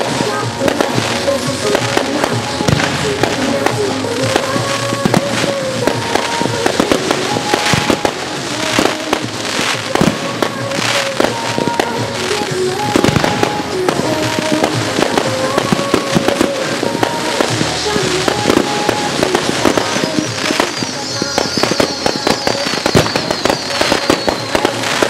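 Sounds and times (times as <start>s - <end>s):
fireworks pops and bangs: 0.0s - 25.0s
music playing: 0.0s - 25.0s.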